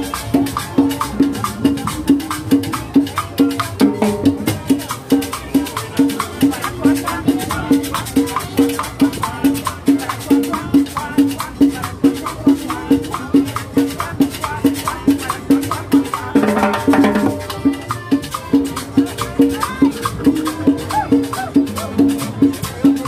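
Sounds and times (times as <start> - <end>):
cumbia band playing: 0.0 - 23.0.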